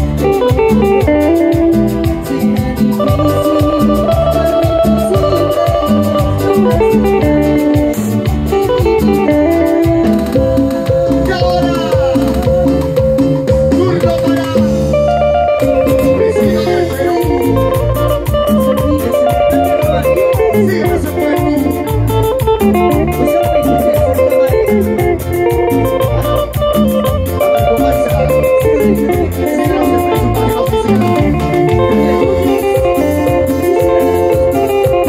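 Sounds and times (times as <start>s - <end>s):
lead guitar: 0.0s - 35.0s
live band music through speakers: 0.0s - 35.0s.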